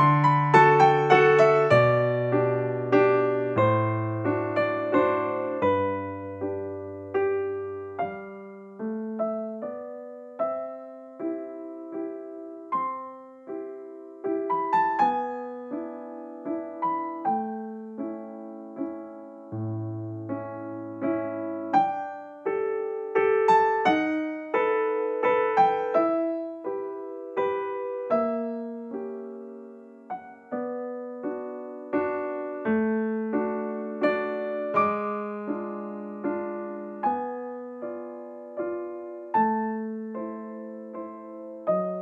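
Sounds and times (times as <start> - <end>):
gentle piano music: 0.0 - 42.0.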